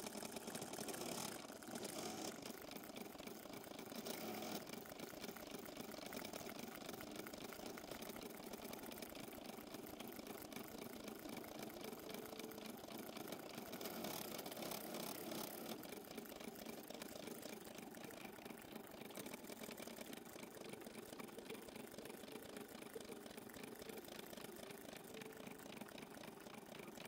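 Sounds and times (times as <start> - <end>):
embroidery machine stitching: 0.0 - 27.0.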